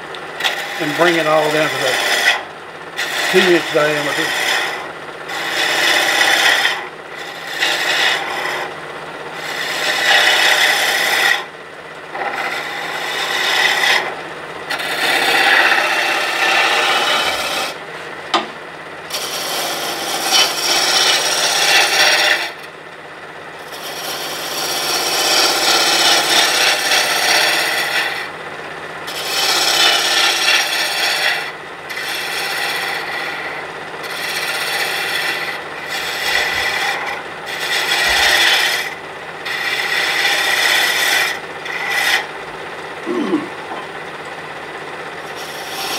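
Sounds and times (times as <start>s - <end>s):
gouge cutting wood on lathe: 0.4s - 11.5s, 12.1s - 18.5s, 19.1s - 22.7s, 23.5s - 28.3s, 28.9s - 42.4s, 44.9s - 45.9s.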